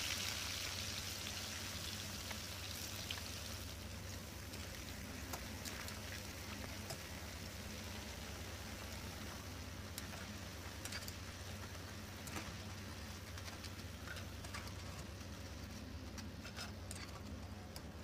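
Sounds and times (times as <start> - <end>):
crackles and pops of frying: 0.0 - 18.0
potato sticks deep-frying in oil: 0.0 - 18.0.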